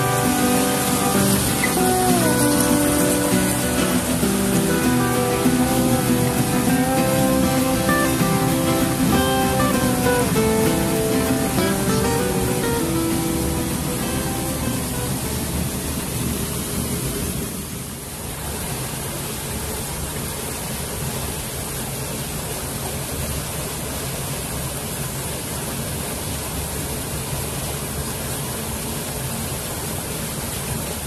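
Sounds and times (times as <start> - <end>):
stream flowing over rocks: 0.0 - 31.0
waterfall pouring into pool: 0.0 - 31.0.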